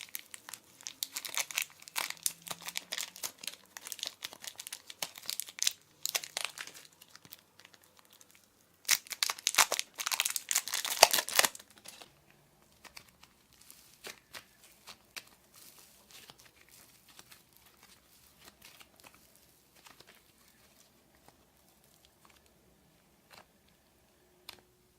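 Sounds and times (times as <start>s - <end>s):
crunchy slime crackling: 0.0s - 24.9s.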